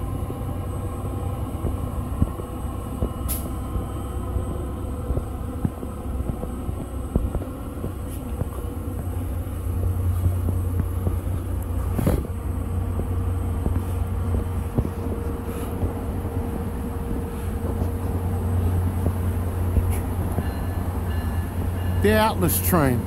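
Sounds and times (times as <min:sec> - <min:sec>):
train rumbling on bridge: 0:00.0 - 0:23.0.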